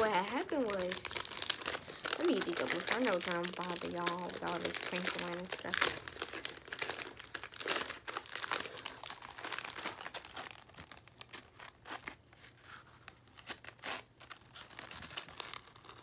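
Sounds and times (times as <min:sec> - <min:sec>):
wrapper crinkling and rustling: 0:00.0 - 0:16.0
wrapper tearing: 0:00.0 - 0:16.0.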